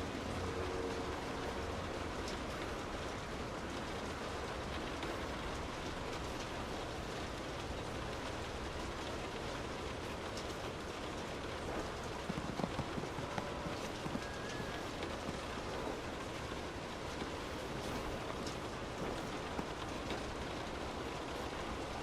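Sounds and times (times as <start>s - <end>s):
steady rain heard indoors: 0.0s - 22.0s.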